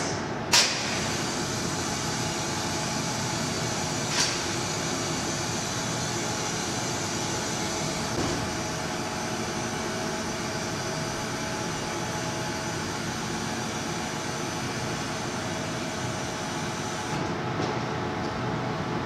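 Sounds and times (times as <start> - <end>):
parking lift mechanical hum: 0.0 - 19.0.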